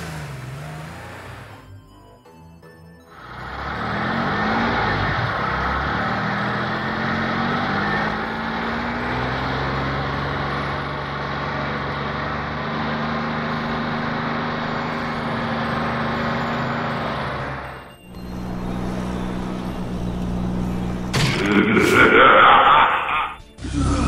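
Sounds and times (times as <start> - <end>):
car engine running: 0.0 - 2.1, 3.1 - 23.2.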